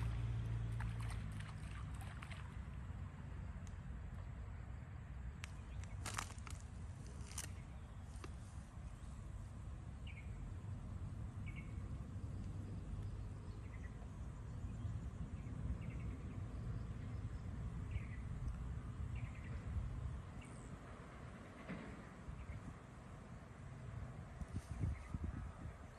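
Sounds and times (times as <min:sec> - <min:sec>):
low outdoor rumble: 0:00.0 - 0:25.9.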